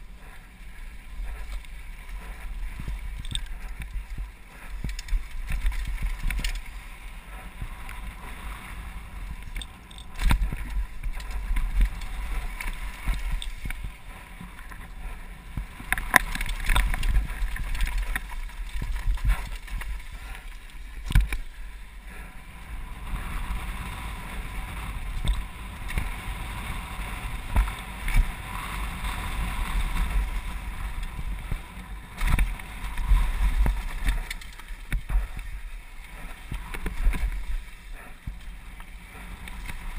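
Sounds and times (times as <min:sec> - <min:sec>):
tyre and trail noise hissing: 0:00.0 - 0:39.9.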